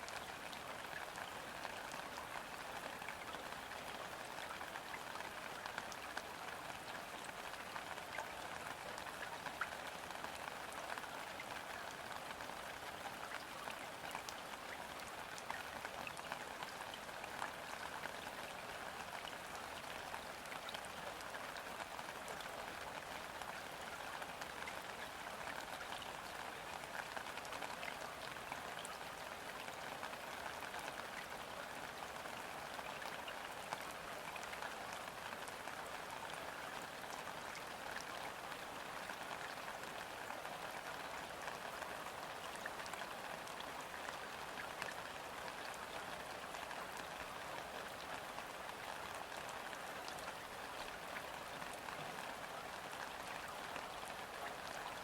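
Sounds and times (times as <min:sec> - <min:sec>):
gentle rain on river: 0:00.0 - 0:55.0.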